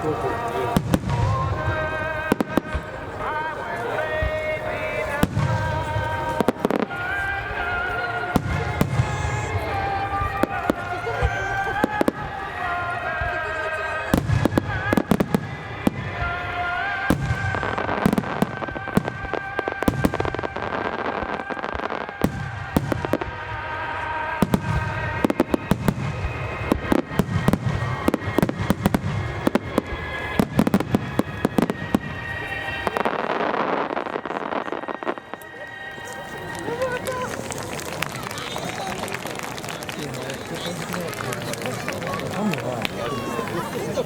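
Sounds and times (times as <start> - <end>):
fireworks booming and crackling: 0.0 - 44.0
music playing: 0.0 - 44.0.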